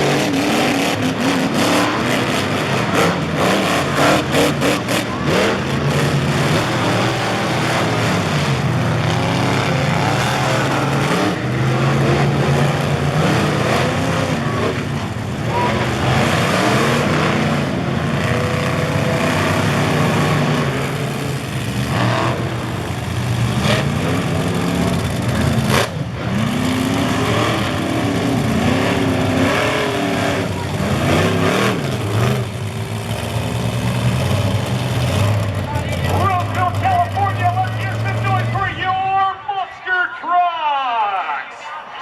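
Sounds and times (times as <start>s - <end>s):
monster truck engines revving: 0.0s - 42.0s.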